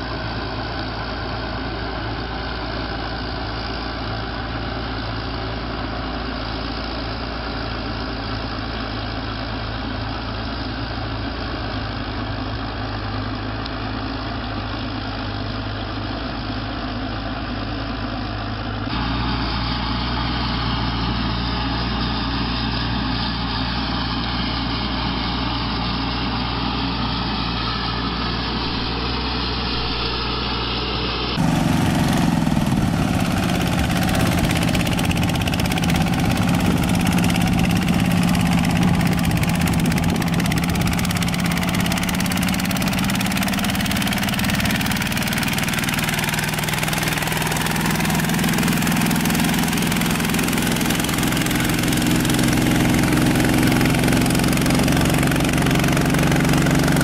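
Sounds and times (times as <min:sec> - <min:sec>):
tracked tractor engine in mud: 0:00.0 - 0:57.0
walk-behind tractor engine tilling: 0:00.0 - 0:57.0.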